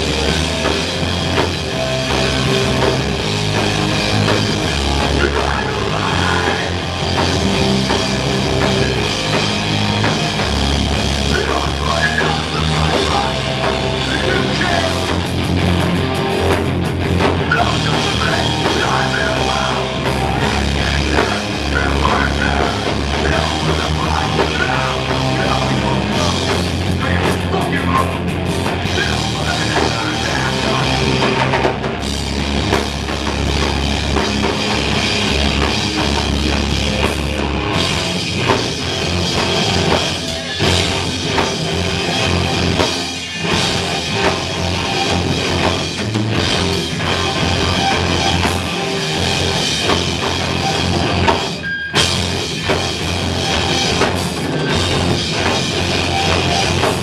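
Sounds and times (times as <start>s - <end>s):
live heavy rock band playing: 0.0s - 57.0s.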